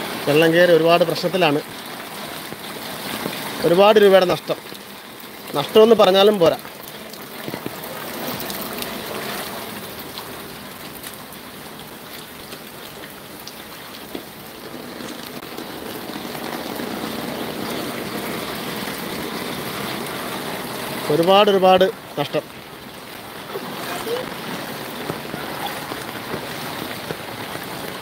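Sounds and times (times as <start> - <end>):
rain on an umbrella: 0.0 - 28.0.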